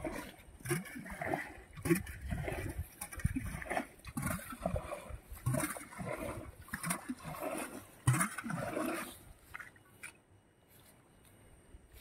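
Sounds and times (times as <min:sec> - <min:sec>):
pond water sloshing and splashing: 0:00.0 - 0:10.7.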